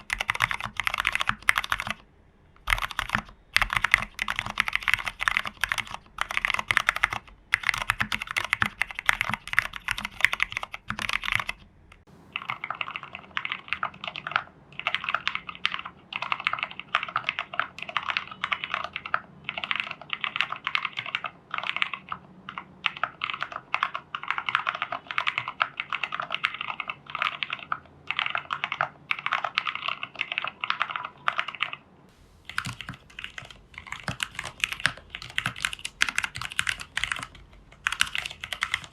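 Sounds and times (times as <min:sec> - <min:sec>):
mechanical keyboard typing: 0:00.0 - 0:31.8, 0:32.4 - 0:38.9.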